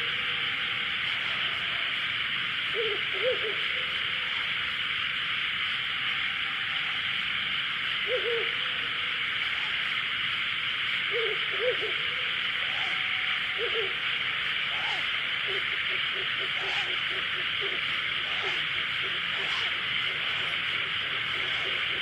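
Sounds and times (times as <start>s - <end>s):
owl hooting: 0.0s - 5.3s, 7.8s - 22.0s
steady high hiss: 0.0s - 22.0s.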